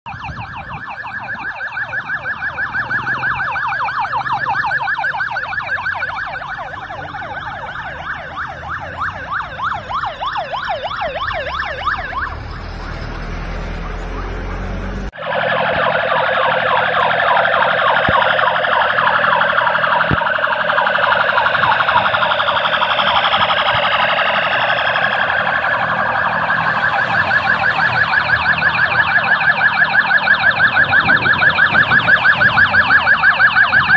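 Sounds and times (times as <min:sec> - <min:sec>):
police sirens yelping: 0:00.1 - 0:33.9.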